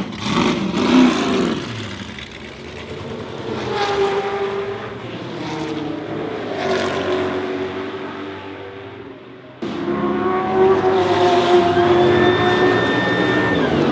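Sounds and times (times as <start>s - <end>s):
racing cars passing at speed: 0.0s - 13.9s.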